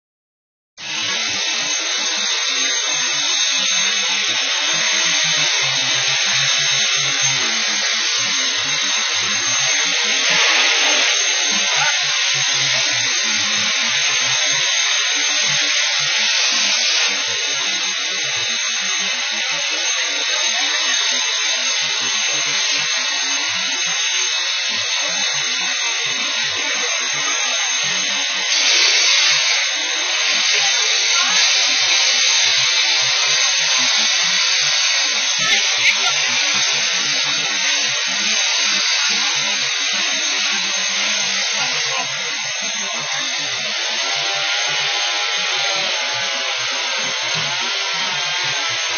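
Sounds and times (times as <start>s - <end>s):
fire hose spraying water: 0.8s - 48.9s.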